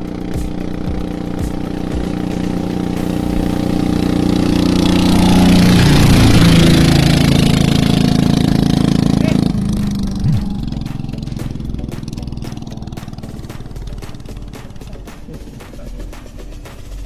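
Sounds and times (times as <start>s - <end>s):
boat diesel engines running: 0.0s - 17.0s
boat wake spray rushing: 0.0s - 17.0s.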